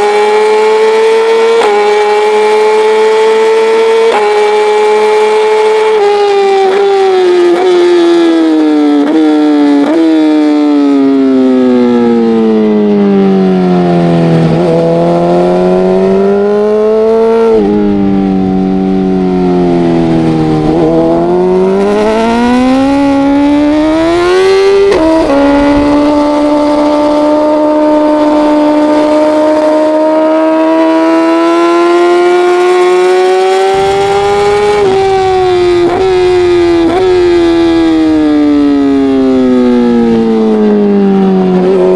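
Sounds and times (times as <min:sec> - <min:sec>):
racing motorcycle engine: 0:00.0 - 0:41.9.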